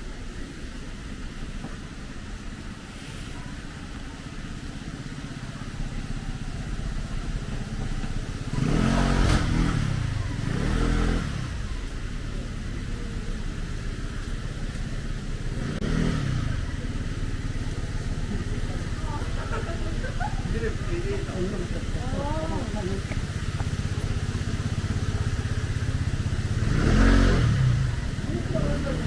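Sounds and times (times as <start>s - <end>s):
street background noise: 0.0s - 29.0s
motor vehicle engine passing: 2.3s - 29.0s.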